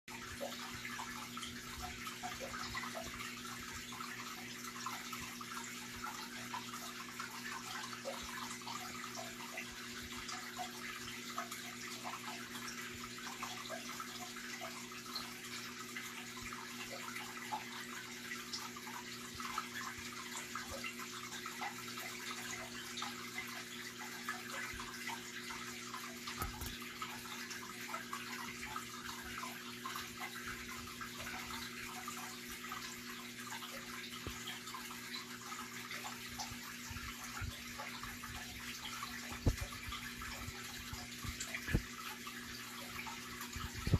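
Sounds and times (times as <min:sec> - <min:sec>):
aquarium water trickling and splashing: 0:00.0 - 0:43.9.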